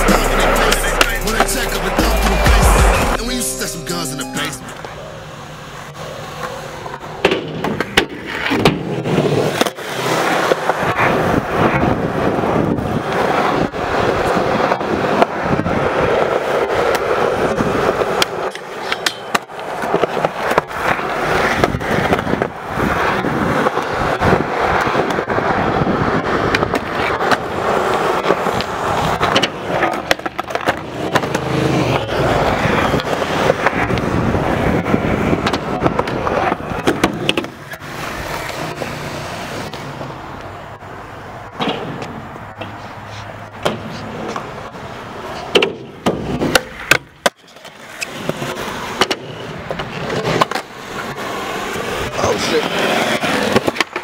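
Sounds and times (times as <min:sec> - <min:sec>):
skateboard wheels rolling on concrete: 0:00.0 - 0:03.2, 0:04.6 - 0:54.0
skateboard clacking on ground: 0:04.7 - 0:54.0.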